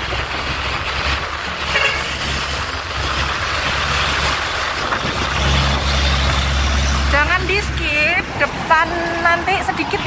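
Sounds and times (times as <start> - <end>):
low engine rumble: 0.0 - 10.0
road and wind noise: 0.0 - 10.0.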